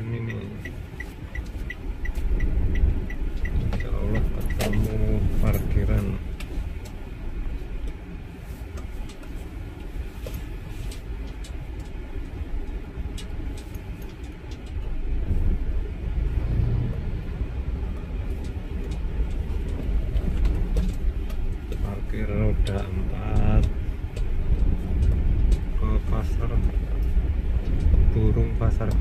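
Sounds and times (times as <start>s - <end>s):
car driving slowly: 0.0s - 29.0s.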